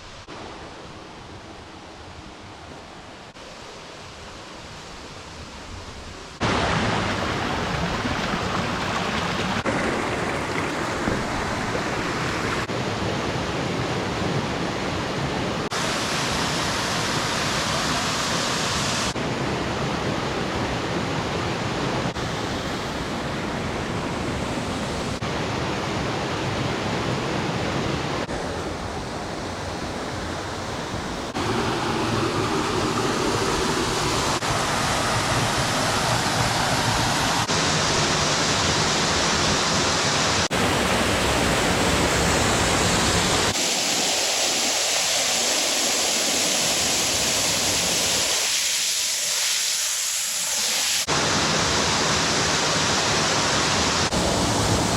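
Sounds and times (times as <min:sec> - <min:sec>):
waterfall roaring: 0:05.5 - 0:54.9.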